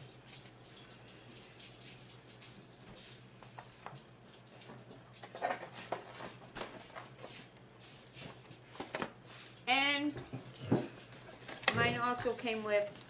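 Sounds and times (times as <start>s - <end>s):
eating and handling food: 0.0s - 13.0s.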